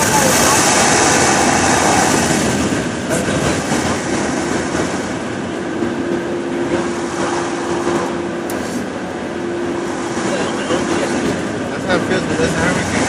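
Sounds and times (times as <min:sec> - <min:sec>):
drying blowers rushing air: 0:00.0 - 0:13.0.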